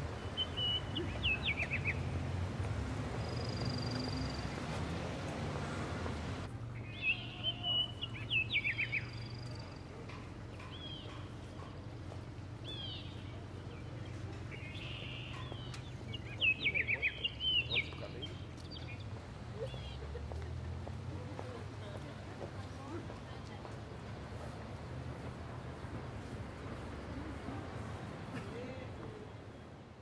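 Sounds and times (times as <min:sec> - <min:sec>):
songbird chirping: 0:00.0 - 0:28.2.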